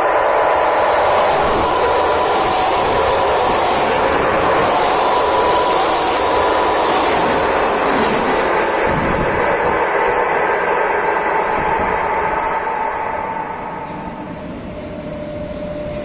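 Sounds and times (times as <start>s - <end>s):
train wheels rushing past: 0.0s - 16.0s.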